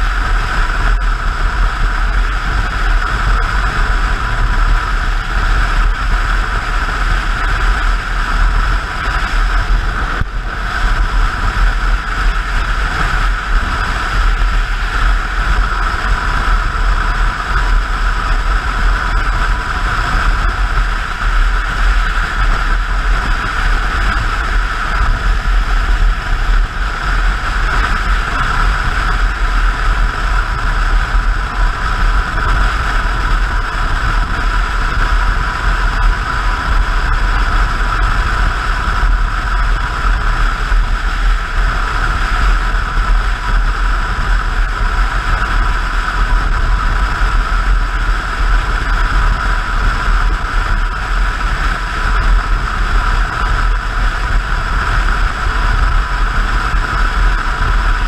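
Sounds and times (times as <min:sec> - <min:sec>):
motorcycle engine and road noise: 0:00.0 - 0:58.0
wind rushing over microphone: 0:00.0 - 0:58.0.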